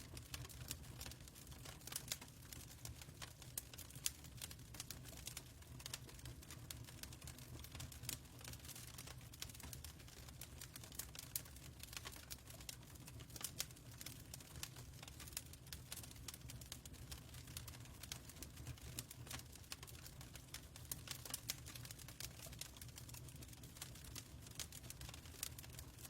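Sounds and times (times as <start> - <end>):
low rumble of fire: 0.0 - 26.0.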